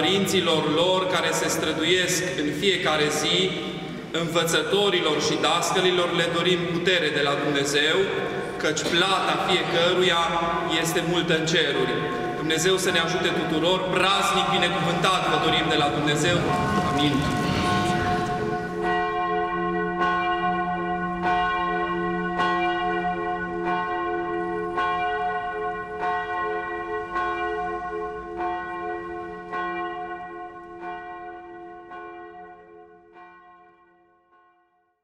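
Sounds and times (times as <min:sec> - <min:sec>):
church bell ringing: 0:00.0 - 0:34.7.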